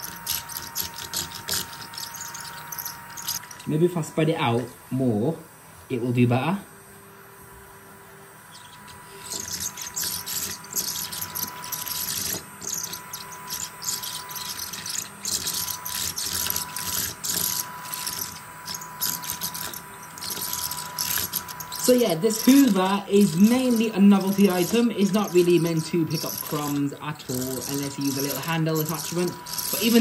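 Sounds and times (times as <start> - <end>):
small vacuum motor whine: 0.0 - 30.0.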